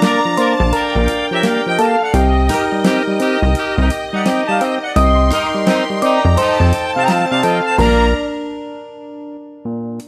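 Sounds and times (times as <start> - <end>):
background music with bass beat: 0.0 - 8.6.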